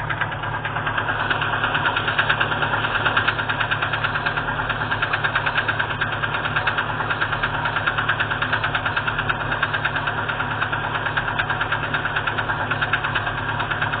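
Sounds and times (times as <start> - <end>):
van engine idling with knock: 0.0 - 14.0.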